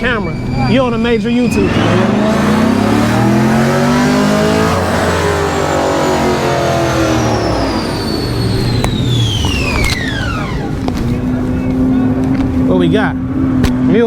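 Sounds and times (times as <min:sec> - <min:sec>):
high whine falling in pitch: 0:00.0 - 0:13.1
car engine revving: 0:00.0 - 0:14.0.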